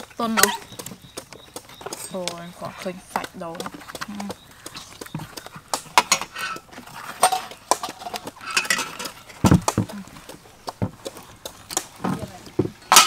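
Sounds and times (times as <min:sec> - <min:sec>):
spoons scraping coconut shells: 0:00.0 - 0:13.0.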